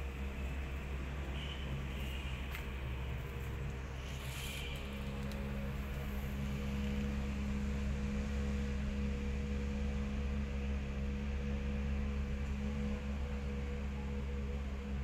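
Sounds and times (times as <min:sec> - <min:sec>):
low hum with held tones: 0:00.0 - 0:15.0.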